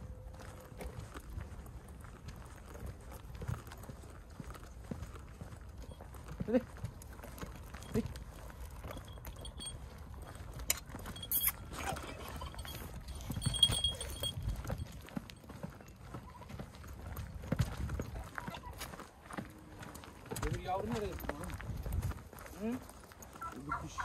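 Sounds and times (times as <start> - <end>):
footsteps on stony dirt: 0.0 - 24.0.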